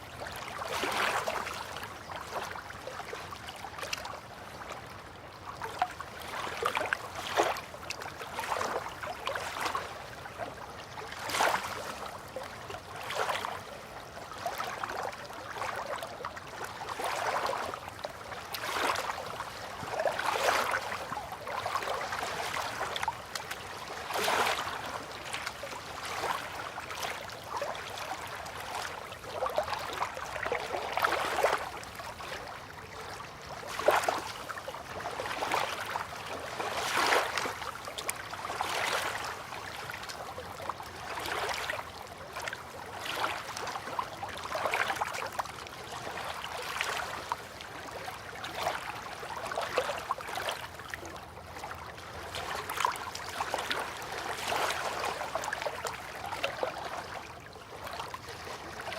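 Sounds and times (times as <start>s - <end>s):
river water lapping: 0.0s - 58.9s.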